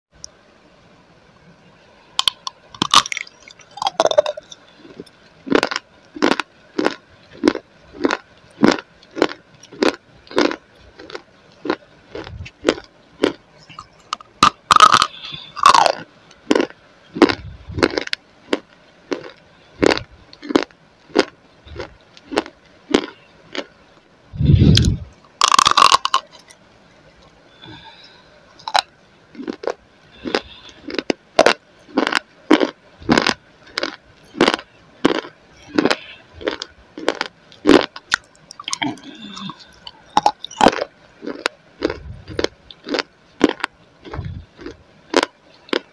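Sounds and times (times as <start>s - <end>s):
crunchy chewing: 2.2s - 26.6s, 27.6s - 45.9s.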